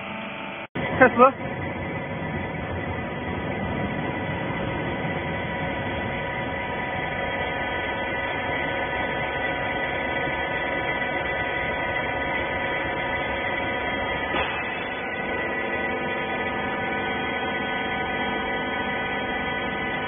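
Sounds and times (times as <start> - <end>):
electric motor and pump humming: 0.0 - 20.0.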